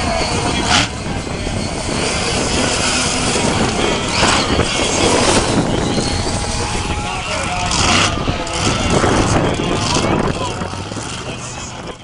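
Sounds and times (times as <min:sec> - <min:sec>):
truck engine running rough: 0:00.0 - 0:12.0.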